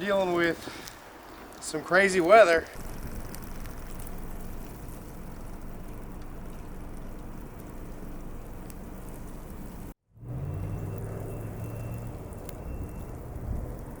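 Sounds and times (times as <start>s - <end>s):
vehicle engine running: 2.8s - 14.0s.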